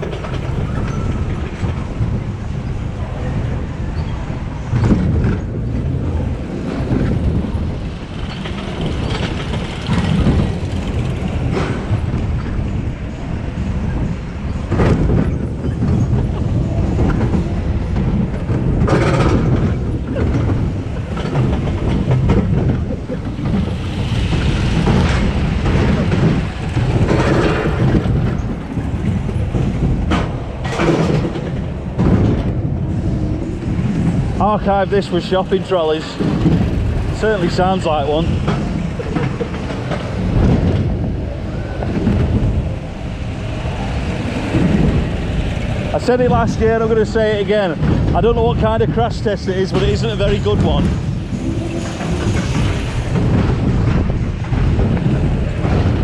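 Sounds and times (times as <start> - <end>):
roller coaster rattling on track: 0.0 - 56.0.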